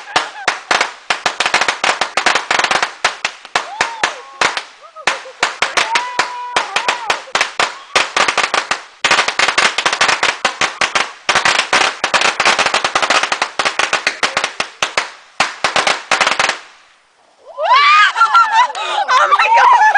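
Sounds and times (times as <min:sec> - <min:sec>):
firecrackers cracking: 0:00.0 - 0:17.0.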